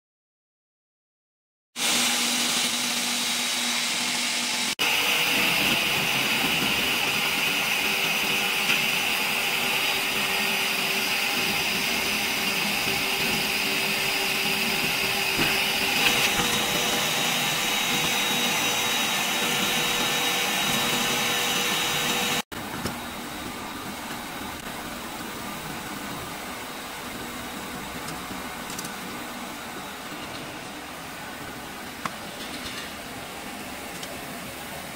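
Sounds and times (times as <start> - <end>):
machine humming and whining: 1.8 - 34.9.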